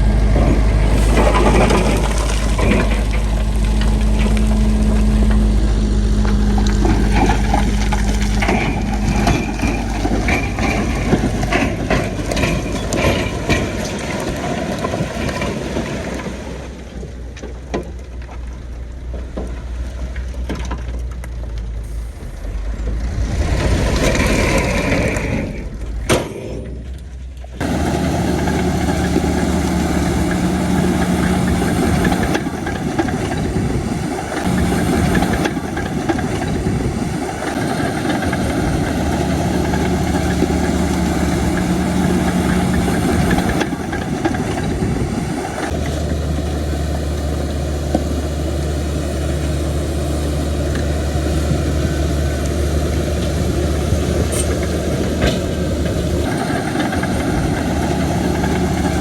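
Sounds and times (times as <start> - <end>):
diesel engines of heavy machines: 0.0 - 59.0.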